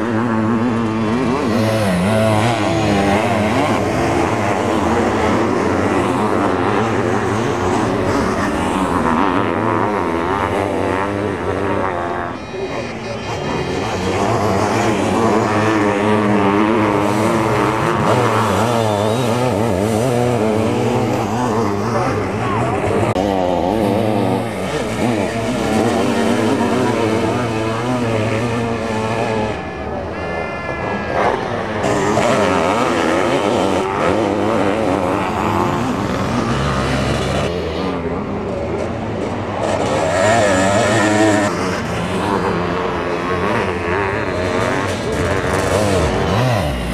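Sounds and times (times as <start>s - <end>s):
motocross engine revving: 0.0s - 46.9s.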